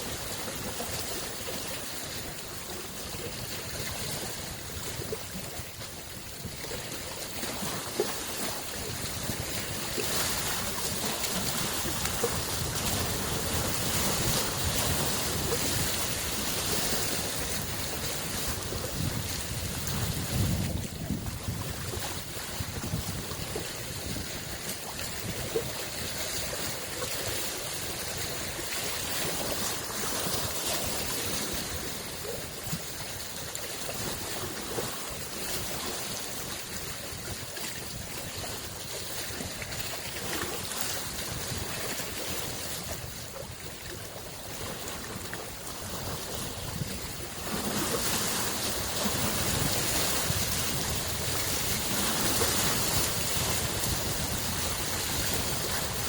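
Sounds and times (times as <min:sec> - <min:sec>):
small waves washing in: 0:00.0 - 0:56.0.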